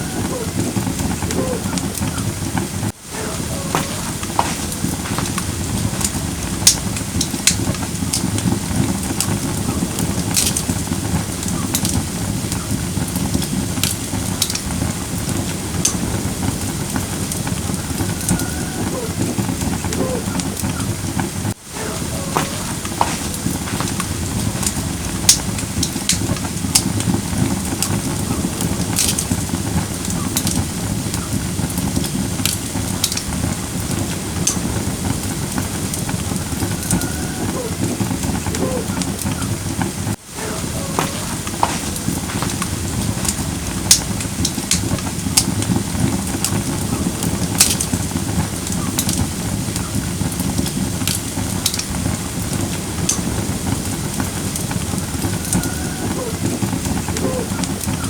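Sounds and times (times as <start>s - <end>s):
fire crackling and popping: 0.0s - 58.0s
fire flames rushing: 0.0s - 58.0s.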